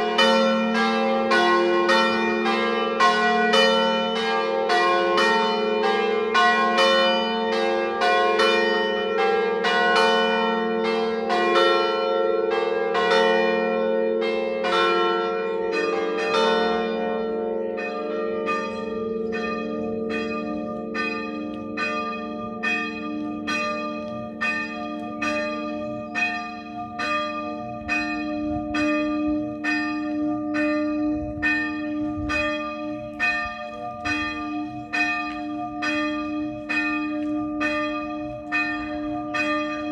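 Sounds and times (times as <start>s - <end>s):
church bells ringing: 0.0s - 39.9s
hum of large bells: 0.0s - 39.9s.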